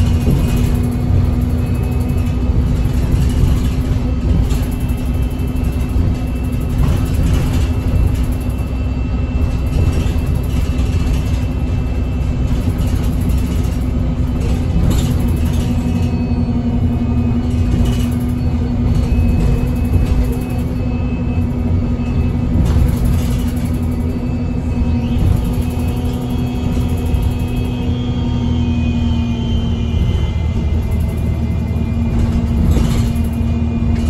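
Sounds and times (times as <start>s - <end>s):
bus engine and road rumble: 0.0s - 34.0s
constant hum: 0.0s - 34.0s.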